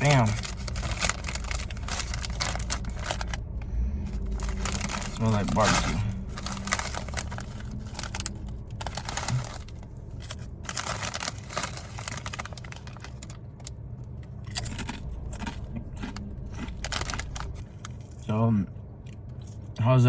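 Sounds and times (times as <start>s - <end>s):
chip bag crinkling: 0.0s - 3.4s, 4.1s - 13.8s, 14.4s - 18.2s
potato chips crunching: 0.0s - 3.5s, 4.1s - 18.3s.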